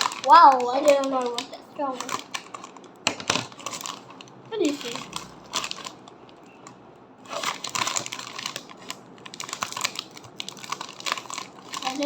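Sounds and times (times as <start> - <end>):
plastic snack bag crinkling: 0.0 - 12.0.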